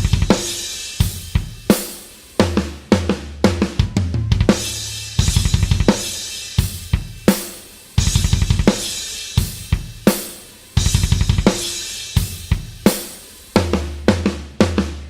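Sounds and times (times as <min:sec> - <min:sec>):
rock drum kit groove: 0:00.0 - 0:15.0.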